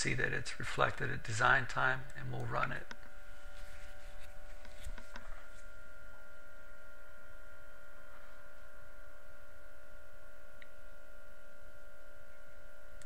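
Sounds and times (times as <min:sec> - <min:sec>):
electrical hum: 0:00.0 - 0:13.0
faint high whine: 0:00.0 - 0:13.0.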